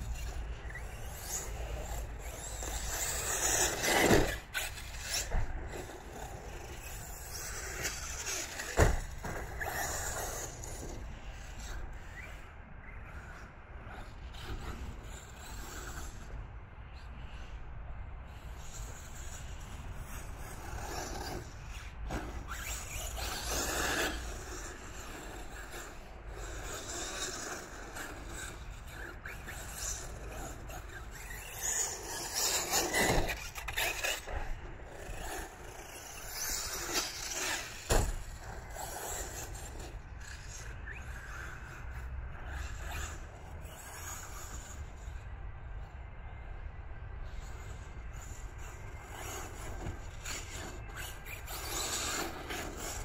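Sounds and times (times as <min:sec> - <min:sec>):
rc car motors whining: 0:00.0 - 0:53.0.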